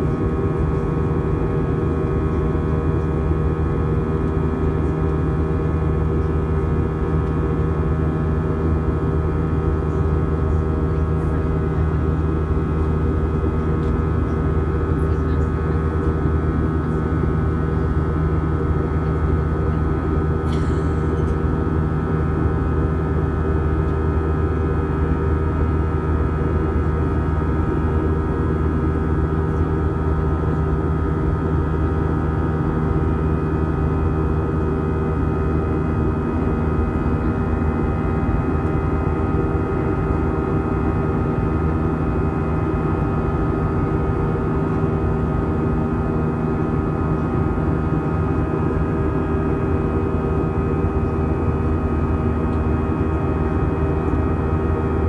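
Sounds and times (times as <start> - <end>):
steady humming tones: 0.0 - 55.0.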